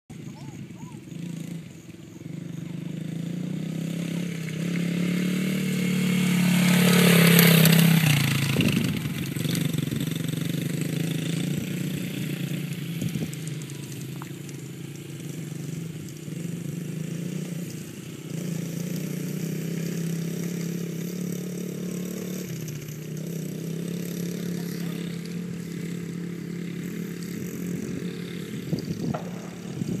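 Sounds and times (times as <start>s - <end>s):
dirt bike engine running: 0.1s - 30.0s.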